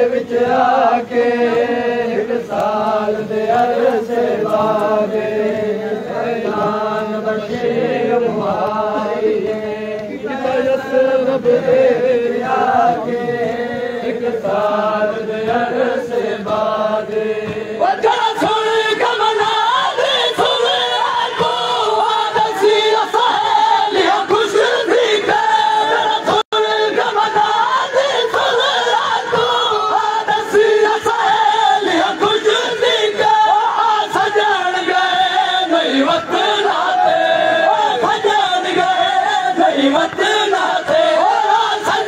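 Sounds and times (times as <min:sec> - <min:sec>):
men chanting a lament: 0:00.0 - 0:42.0.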